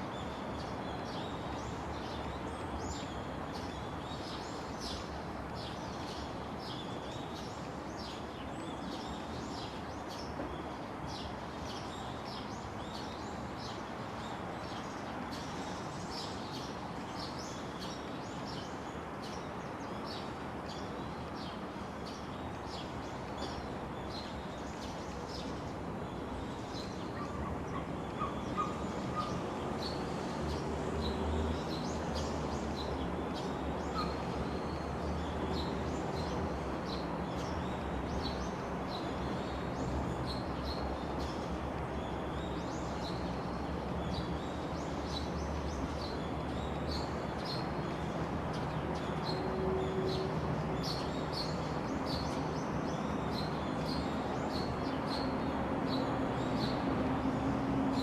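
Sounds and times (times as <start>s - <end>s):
lower steady bird notes: 0.0s - 58.0s.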